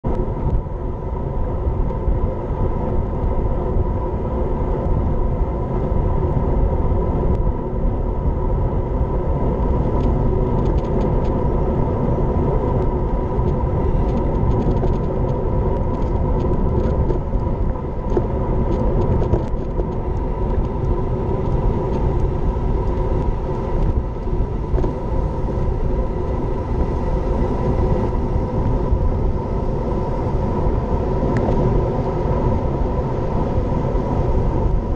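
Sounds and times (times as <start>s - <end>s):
wind rumble on microphone: 0.0s - 34.9s
faint steady whine: 0.1s - 34.9s.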